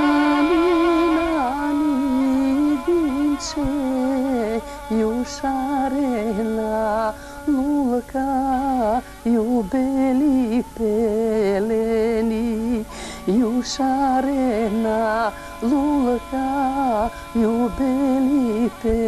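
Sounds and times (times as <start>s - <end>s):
woman singing folk song: 0.0s - 19.0s.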